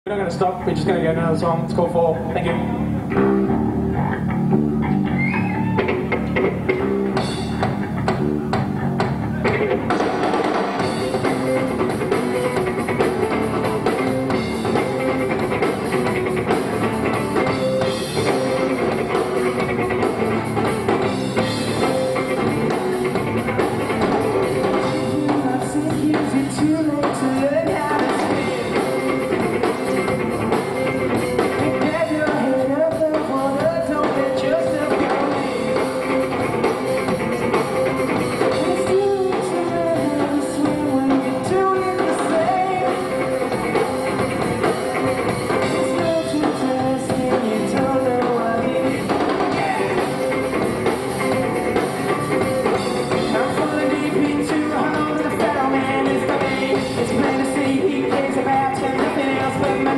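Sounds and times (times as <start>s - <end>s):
bass guitar: 0.1s - 59.9s
drum kit: 0.1s - 59.9s
electric guitar: 0.2s - 59.9s.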